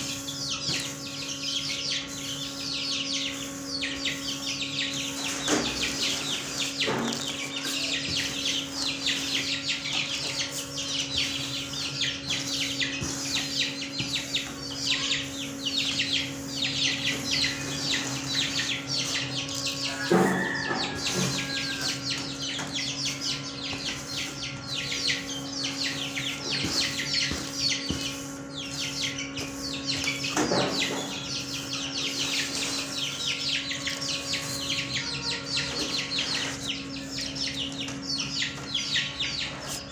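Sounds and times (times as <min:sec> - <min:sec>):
small birds chirping: 0:00.0 - 0:39.9
steady low hum: 0:00.0 - 0:39.9.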